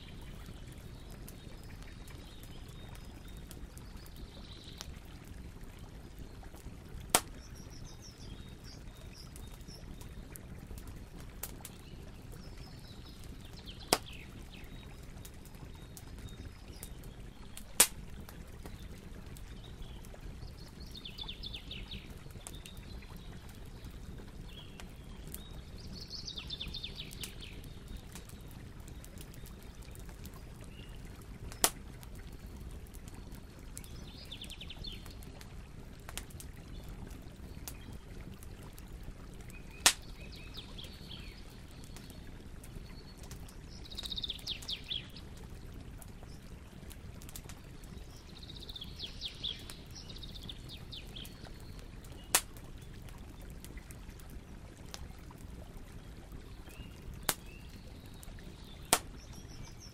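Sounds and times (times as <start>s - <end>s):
bonfire burning: 0.0s - 59.9s
fire popping: 0.0s - 59.9s.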